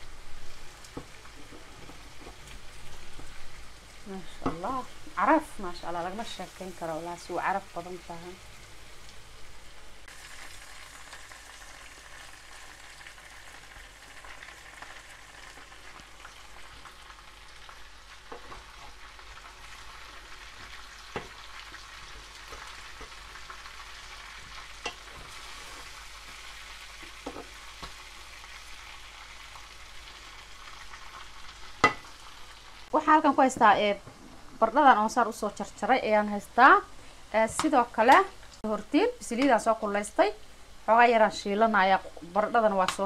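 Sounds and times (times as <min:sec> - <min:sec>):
chicken sizzling in a pot: 0:00.0 - 0:43.0.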